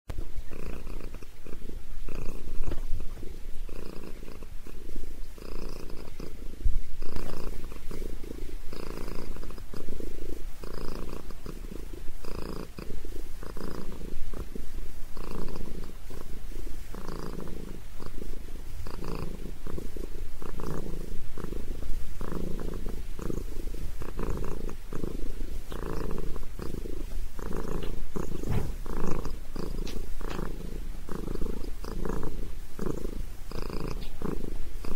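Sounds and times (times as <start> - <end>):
cat purring: 0.1 - 34.9.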